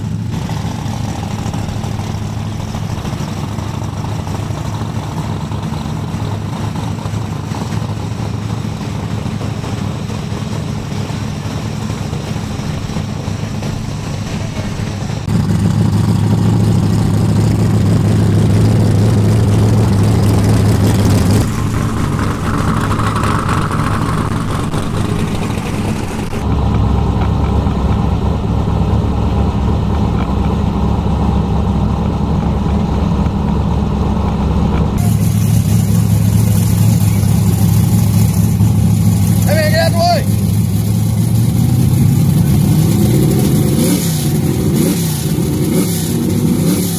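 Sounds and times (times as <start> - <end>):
race car engines idling: 0.0 - 46.9.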